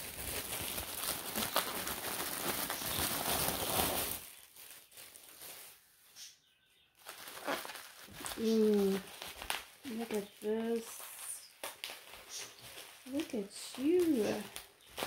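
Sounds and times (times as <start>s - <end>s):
plastic wrapping crinkling: 0.0s - 6.3s, 7.0s - 15.0s.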